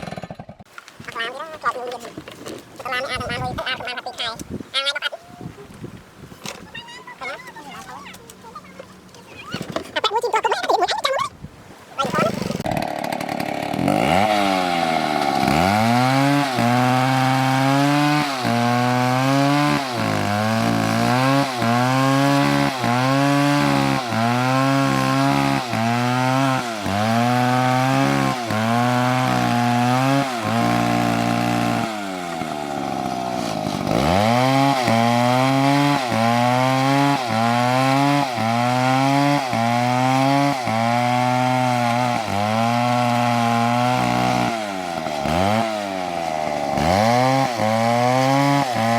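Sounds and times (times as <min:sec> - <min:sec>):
chainsaw cutting wood: 0:00.0 - 0:04.6, 0:12.0 - 0:48.9.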